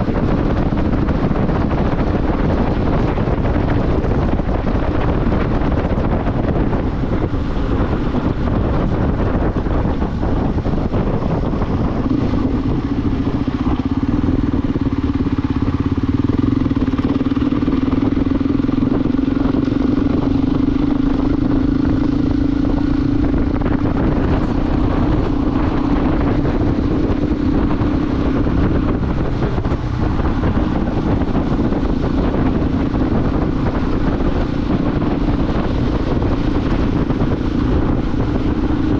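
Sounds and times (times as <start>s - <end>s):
motorcycle engine hum: 0.0s - 38.9s
rushing wind noise: 0.0s - 38.9s.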